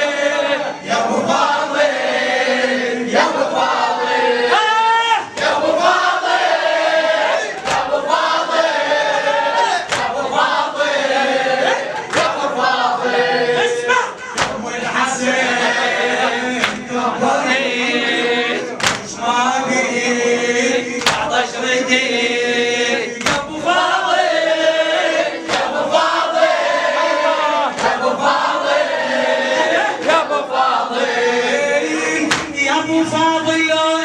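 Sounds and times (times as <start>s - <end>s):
men singing a mourning chant: 5.4s - 34.0s.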